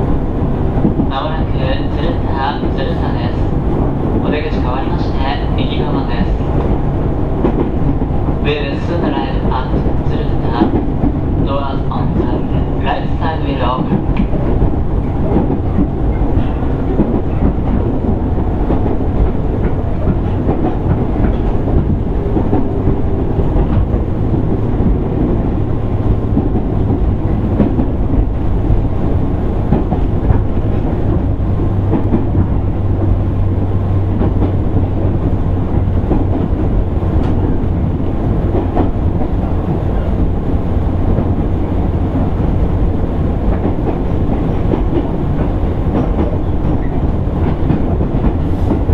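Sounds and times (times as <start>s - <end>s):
train wheel-on-rail rumble: 0.0s - 48.9s.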